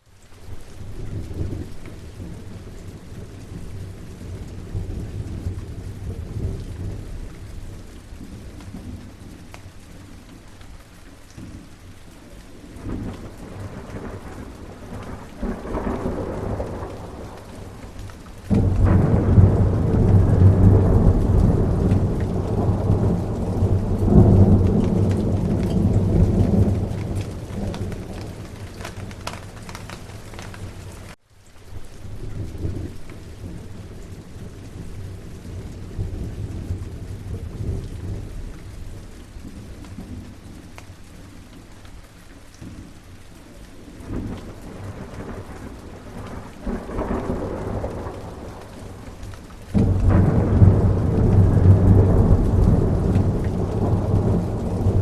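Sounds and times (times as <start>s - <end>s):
steady rain: 0.0s - 55.0s
thunder rumbling: 0.9s - 9.6s, 12.5s - 31.2s, 32.1s - 40.6s, 43.8s - 55.0s.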